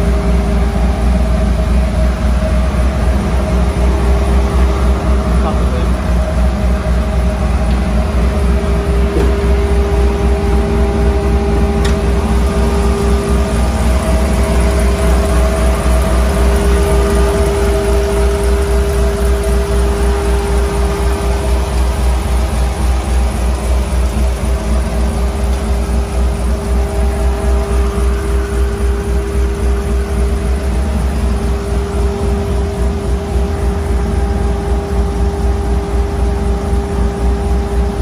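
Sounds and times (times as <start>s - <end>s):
engine idling: 0.0s - 38.0s
supercharger whine: 0.0s - 38.0s.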